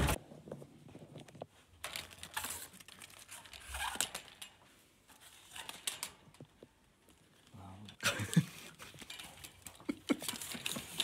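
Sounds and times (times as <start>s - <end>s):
faint rustling and crinkling: 0.0s - 11.0s.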